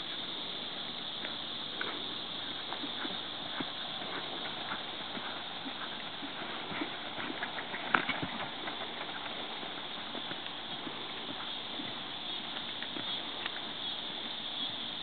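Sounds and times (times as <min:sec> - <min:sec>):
steady hiss: 0:00.0 - 0:15.0
hoofbeats on sand: 0:01.7 - 0:15.0.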